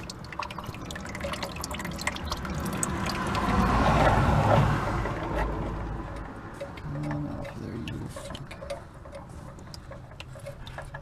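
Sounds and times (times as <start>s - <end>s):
oil trickling into a pan: 0.0s - 11.0s.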